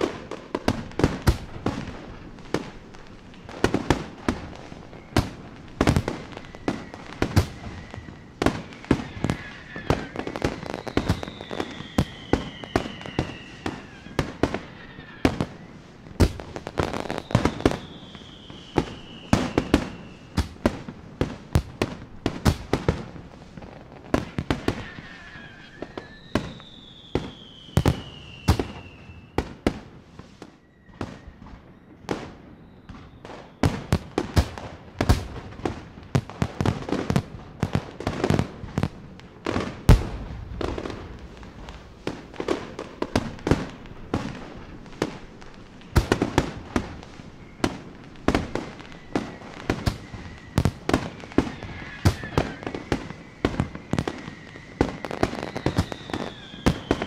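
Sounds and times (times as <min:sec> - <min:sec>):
fireworks bangs: 0:00.0 - 0:57.0
fireworks whistles falling in pitch: 0:00.0 - 0:57.0.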